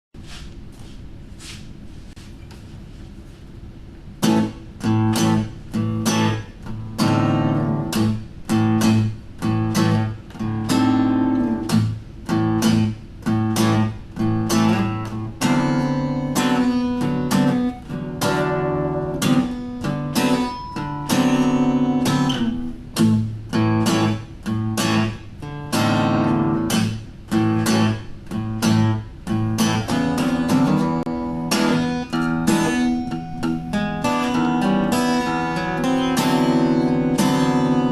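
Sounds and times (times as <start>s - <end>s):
acoustic guitar chords strummed: 4.1s - 37.9s.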